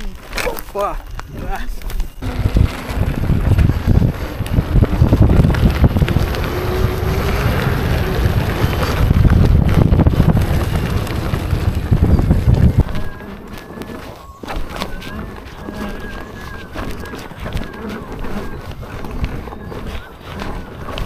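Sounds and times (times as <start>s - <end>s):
electric unicycle low rumble: 0.0s - 21.0s
wind buffeting microphone: 0.0s - 21.0s.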